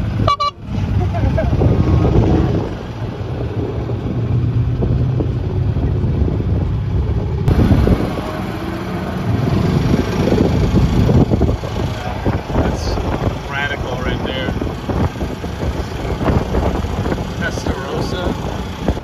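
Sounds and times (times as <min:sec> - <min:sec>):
golf cart running hum: 0:00.0 - 0:19.0
wind buffeting microphone: 0:00.0 - 0:19.0.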